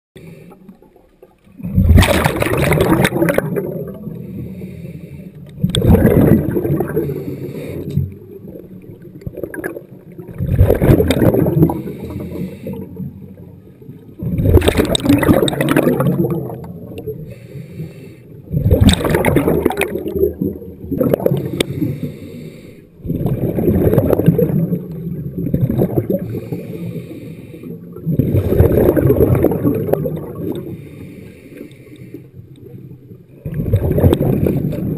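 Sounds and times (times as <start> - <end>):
exhaled bubbles underwater: 0.2 - 34.9.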